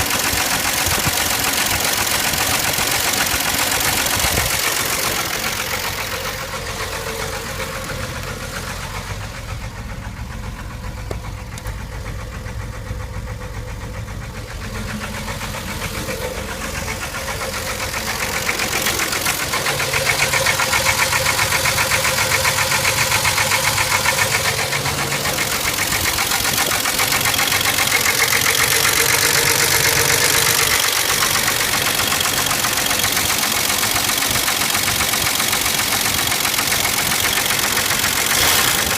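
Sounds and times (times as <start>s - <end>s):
engine running with rhythmic knock: 0.0s - 38.9s.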